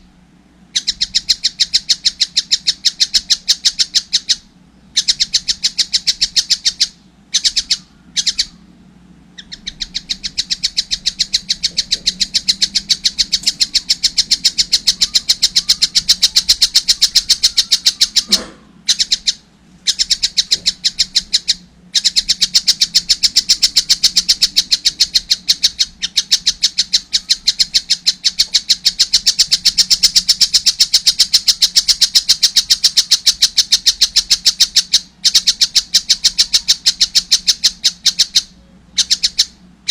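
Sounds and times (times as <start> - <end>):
bird chick chirping: 0.7 - 39.9.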